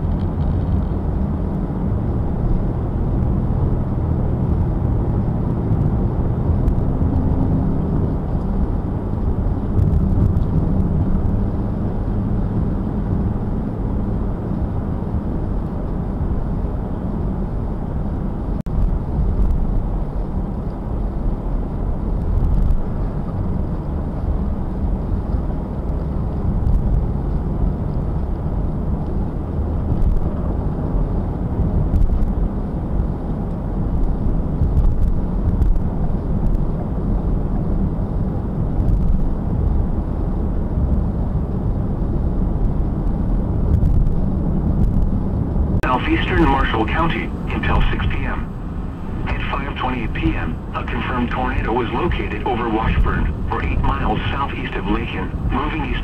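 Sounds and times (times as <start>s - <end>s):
car road noise at highway speed: 0.0s - 56.0s.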